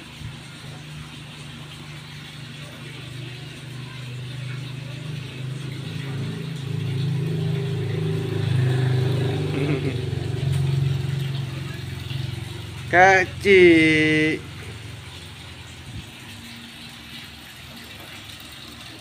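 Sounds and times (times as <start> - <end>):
vehicle engine running: 0.0 - 18.8.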